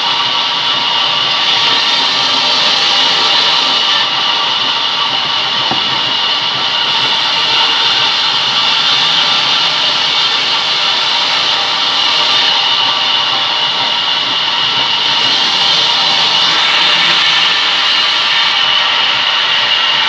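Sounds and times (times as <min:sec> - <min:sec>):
band saw cutting wood: 0:00.0 - 0:20.0.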